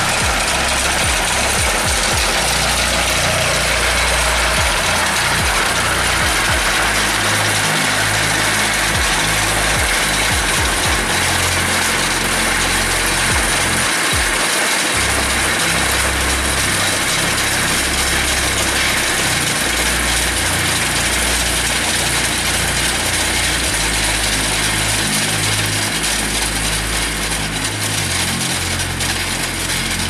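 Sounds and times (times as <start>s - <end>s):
turf aerator engine running: 0.0s - 30.0s.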